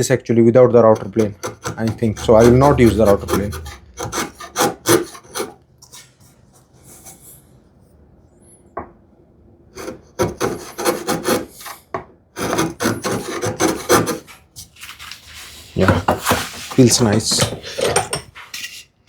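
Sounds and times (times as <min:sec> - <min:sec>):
wood chisel scraping: 0:00.9 - 0:07.3, 0:09.8 - 0:18.9.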